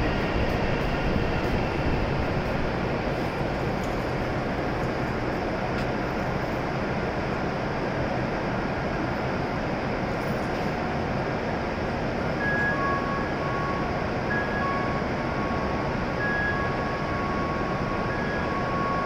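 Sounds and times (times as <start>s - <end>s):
stopped train running noise: 0.0s - 19.0s.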